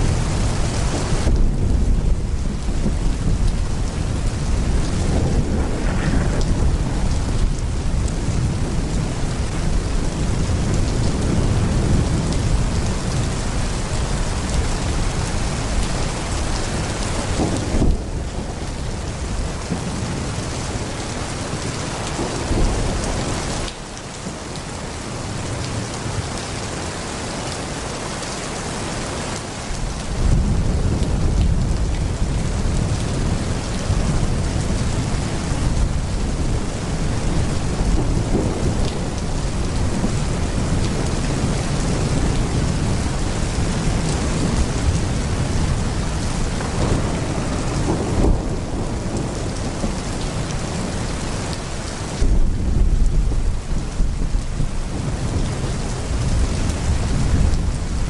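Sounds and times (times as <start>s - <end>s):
rolling thunder: 0.0s - 24.4s, 29.7s - 58.0s
heavy rain pouring: 0.0s - 58.0s.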